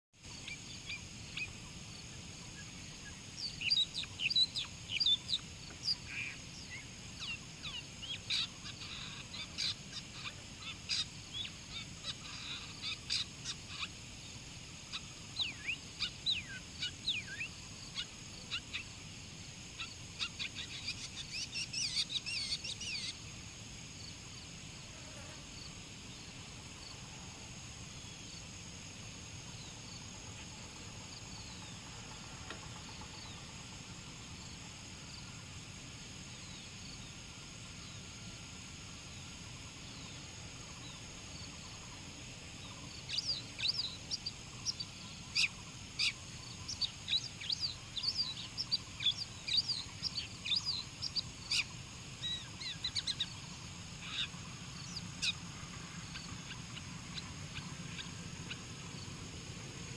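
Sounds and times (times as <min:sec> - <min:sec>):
faint high hiss: 0:00.2 - 0:59.9.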